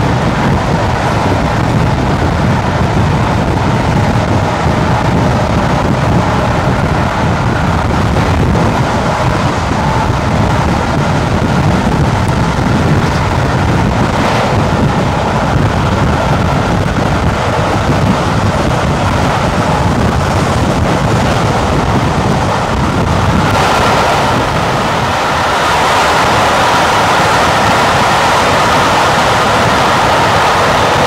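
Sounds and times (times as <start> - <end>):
train rumbling at speed: 0.0 - 31.0
wind on microphone: 0.0 - 31.0.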